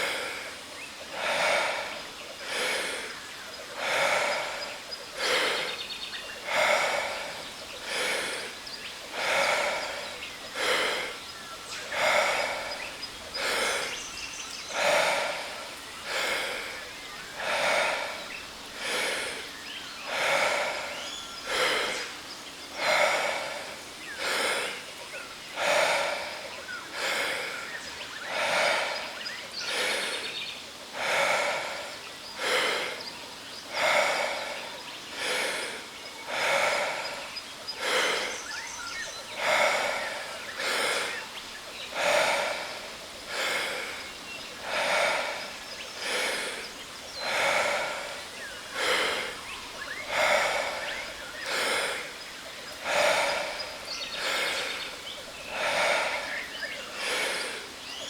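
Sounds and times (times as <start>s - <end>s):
deep forceful breathing: 0.0s - 58.0s.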